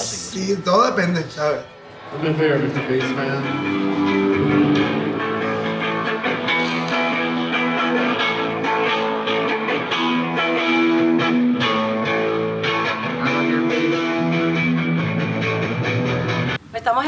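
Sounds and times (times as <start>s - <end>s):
guitar-led rock music: 0.0s - 16.6s.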